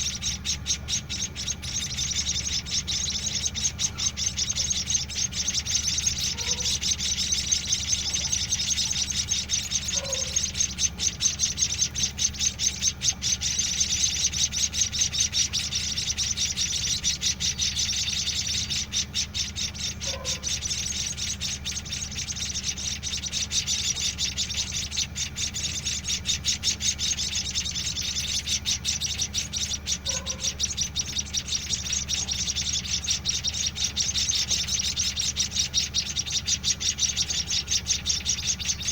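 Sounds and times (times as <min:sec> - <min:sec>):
nestlings chirping for food: 0:00.0 - 0:38.9
steady low hum: 0:00.0 - 0:38.9.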